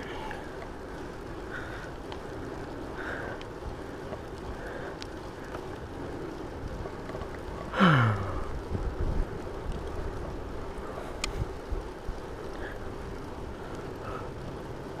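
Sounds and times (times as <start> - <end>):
bike tyres on pavement: 0.0 - 15.0
wind noise: 0.0 - 15.0.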